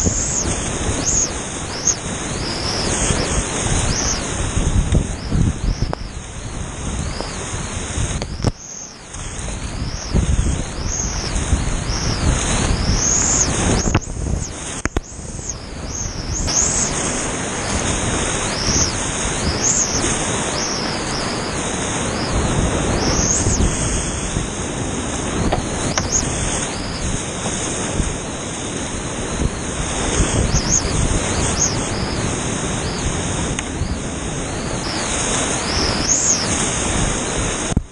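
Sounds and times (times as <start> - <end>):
rushing whitewater: 0.0 - 37.9.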